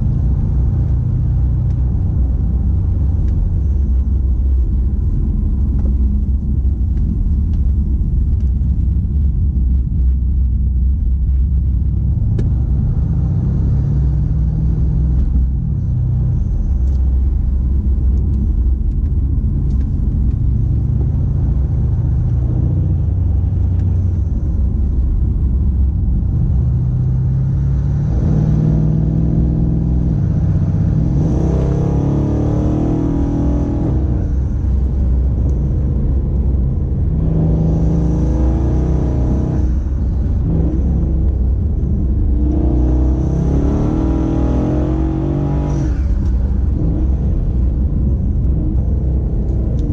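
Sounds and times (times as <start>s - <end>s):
car engine rumbling: 0.0s - 49.9s
road and tyre noise: 0.0s - 49.9s.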